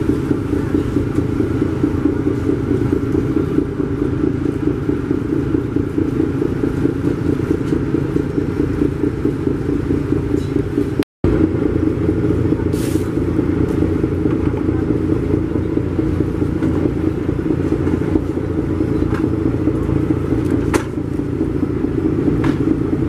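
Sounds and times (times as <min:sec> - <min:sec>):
diesel engines droning: 0:00.0 - 0:23.0.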